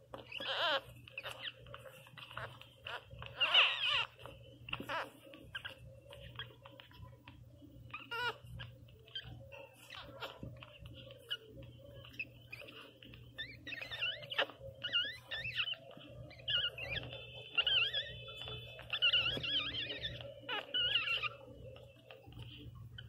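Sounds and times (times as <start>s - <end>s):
puppies whimpering and squealing: 0.0s - 23.0s.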